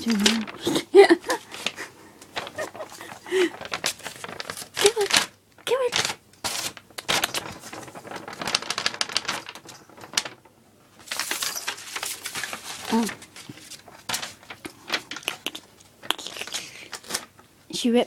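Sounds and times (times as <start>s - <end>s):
paper rustling and tearing: 0.0s - 17.4s.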